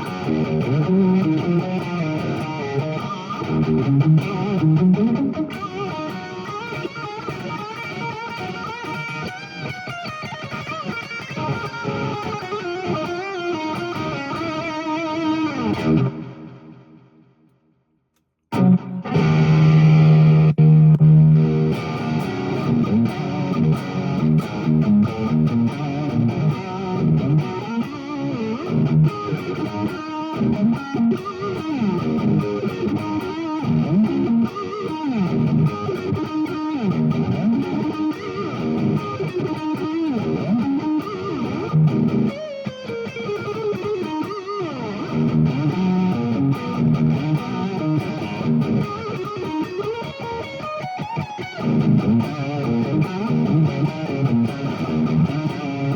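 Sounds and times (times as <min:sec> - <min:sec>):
electric guitar through an amp: 0:00.0 - 0:17.4, 0:18.5 - 0:55.9.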